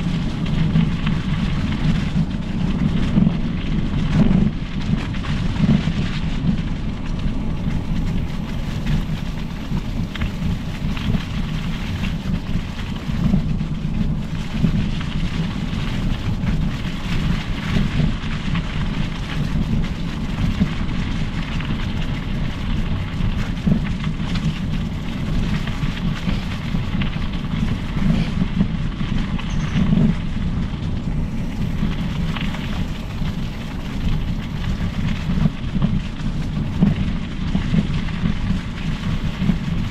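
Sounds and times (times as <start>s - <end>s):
bike tyres rolling on trail: 0.0s - 39.9s
wind buffeting microphone: 0.0s - 39.9s.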